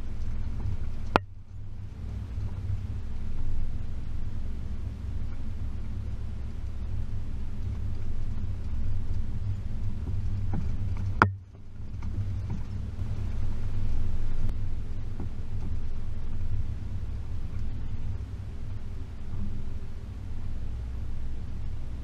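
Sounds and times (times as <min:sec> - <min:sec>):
engine rumbling at low revs: 0:00.0 - 0:22.0.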